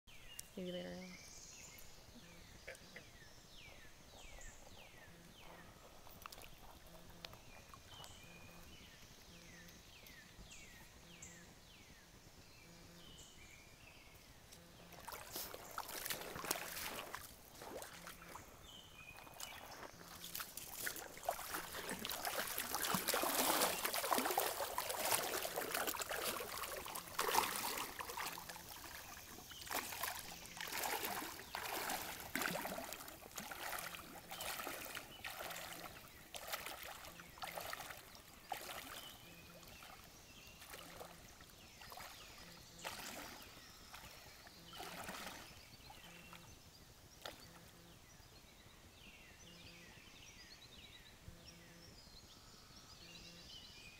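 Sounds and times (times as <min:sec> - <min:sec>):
wading through shallow water: 0:01.5 - 0:12.0, 0:12.7 - 0:48.6.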